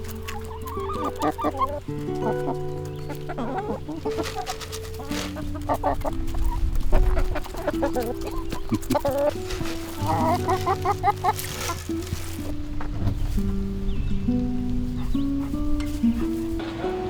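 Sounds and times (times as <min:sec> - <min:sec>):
background music: 0:00.0 - 0:17.0
chickens clucking: 0:00.0 - 0:17.0.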